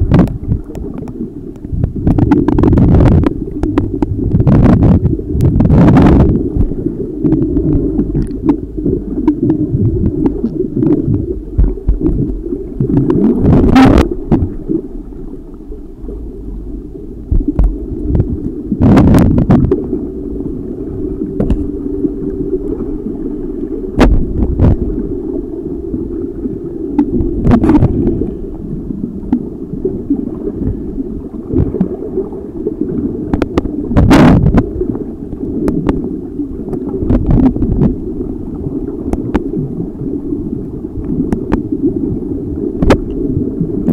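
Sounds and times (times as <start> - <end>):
muffled underwater rumbling: 0.0 - 43.9
splashing and bubbling bursts: 0.0 - 43.9.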